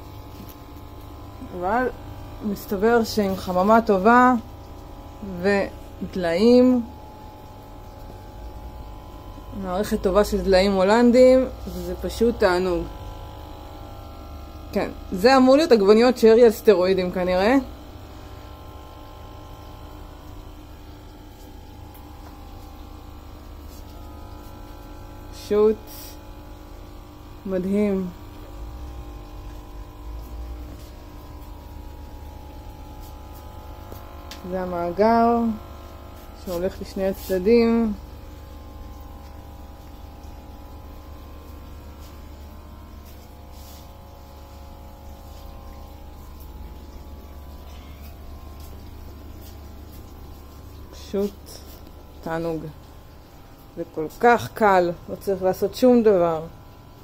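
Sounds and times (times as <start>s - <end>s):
water pump humming: 0.0s - 57.0s
water running: 0.0s - 57.0s.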